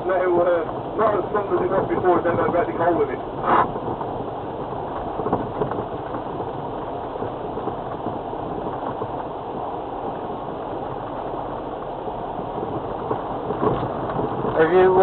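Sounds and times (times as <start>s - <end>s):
diesel engine running in car cabin: 0.0s - 15.0s.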